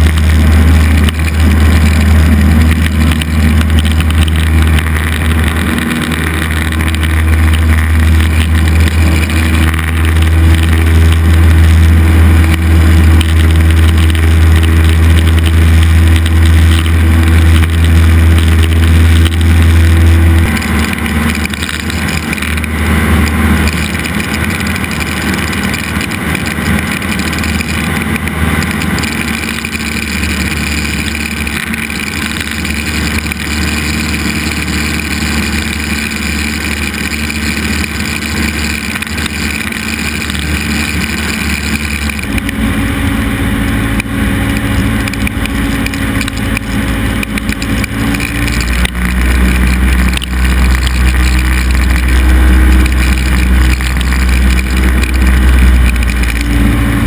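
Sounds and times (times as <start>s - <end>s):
deep rumble: 0.0s - 57.0s
plane engine and propeller droning: 0.0s - 57.0s.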